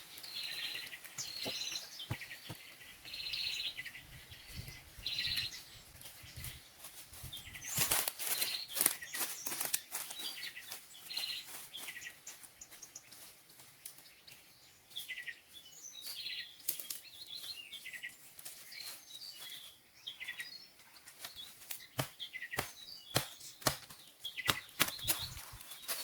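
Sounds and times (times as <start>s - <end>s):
birds chirping: 0.0s - 26.0s
forest ambience: 0.0s - 26.0s.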